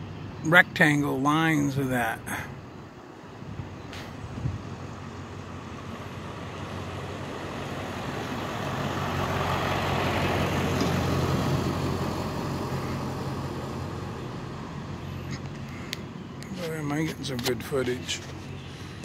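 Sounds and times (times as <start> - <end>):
road noise rushing: 0.0 - 19.0
vehicle engine hum: 0.0 - 19.0.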